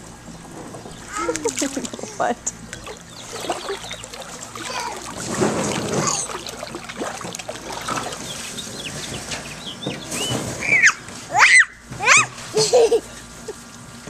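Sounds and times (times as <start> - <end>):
pool water sloshing: 0.0 - 12.4.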